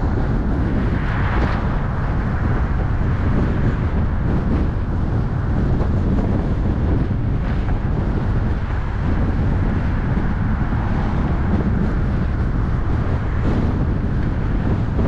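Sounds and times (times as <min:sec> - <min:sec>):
car road rumble: 0:00.0 - 0:15.0
wind buffeting microphone: 0:00.0 - 0:15.0
wind rush: 0:00.0 - 0:15.0.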